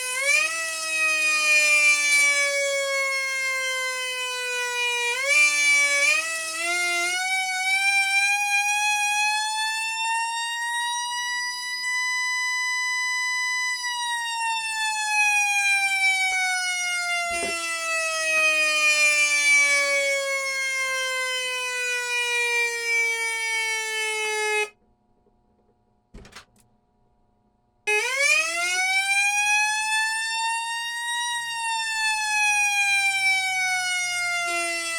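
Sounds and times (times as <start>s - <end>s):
electronic siren wail: 0.0s - 24.8s, 27.9s - 34.9s.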